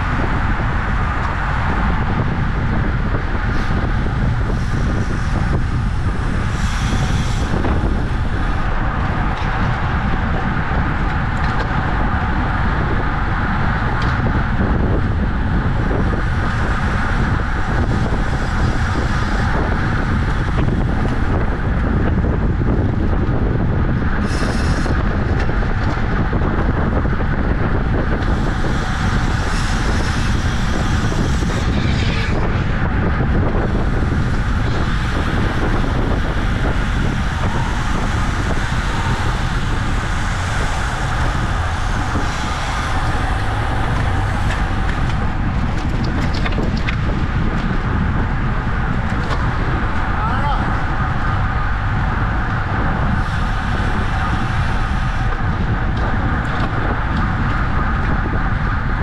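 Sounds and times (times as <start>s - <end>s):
road and tyre noise: 0.0s - 59.0s
wind noise on microphone: 0.0s - 59.0s.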